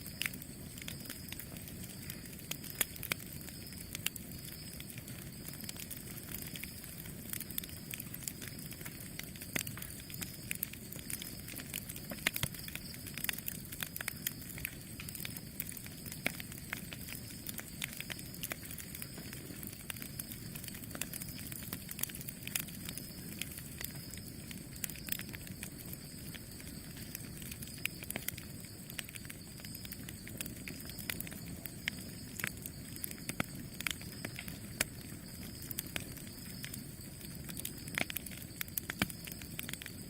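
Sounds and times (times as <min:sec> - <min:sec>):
burning wood popping: 0:00.0 - 0:40.0.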